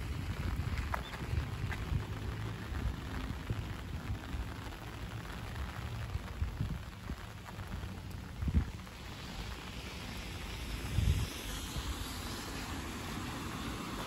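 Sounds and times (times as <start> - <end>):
light rain falling: 0.0 - 14.0.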